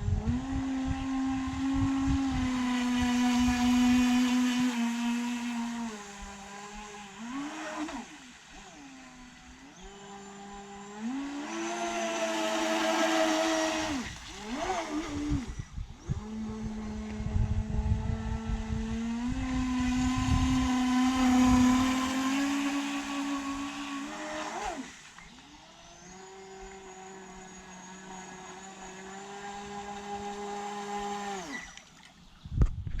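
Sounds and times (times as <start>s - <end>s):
model boat motor whining: 0.0s - 32.4s.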